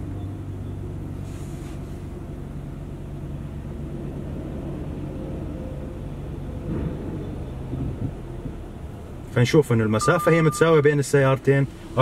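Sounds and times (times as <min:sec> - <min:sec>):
car engine hum at low speed: 0:00.0 - 0:12.0.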